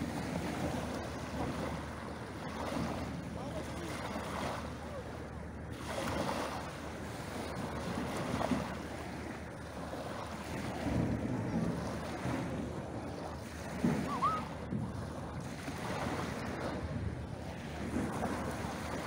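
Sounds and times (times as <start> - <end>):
waves washing over pebbles: 0.0 - 19.0
wind on microphone: 0.0 - 19.0.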